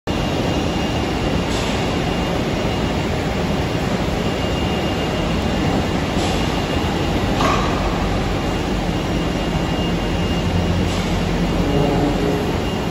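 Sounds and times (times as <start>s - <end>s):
factory machinery rumble: 0.1s - 12.9s.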